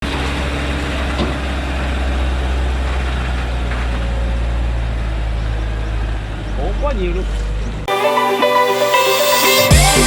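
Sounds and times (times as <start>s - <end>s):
truck diesel engine humming: 0.0s - 10.0s.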